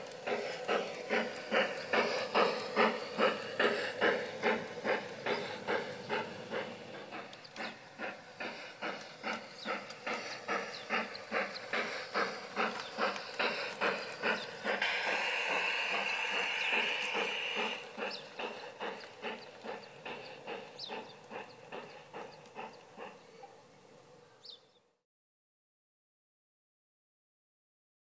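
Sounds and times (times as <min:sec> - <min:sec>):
steam hiss: 0:00.0 - 0:23.5
model steam locomotive chuffing: 0:00.0 - 0:24.8.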